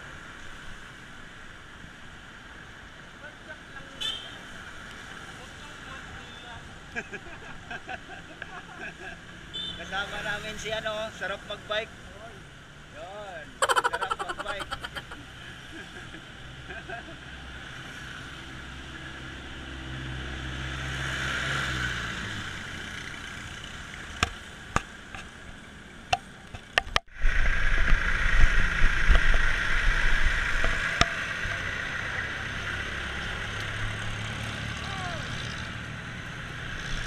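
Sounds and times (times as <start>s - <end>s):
vehicle traffic hum: 0.0s - 37.0s.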